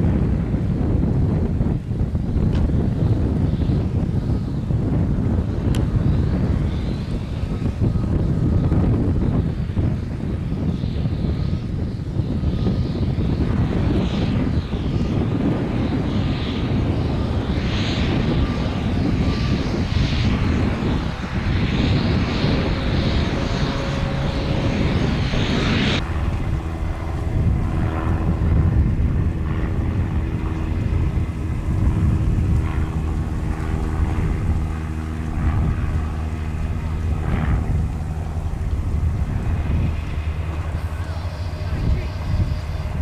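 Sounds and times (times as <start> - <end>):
propeller plane engine running: 0.0 - 43.0
wind buffeting microphone: 0.0 - 43.0.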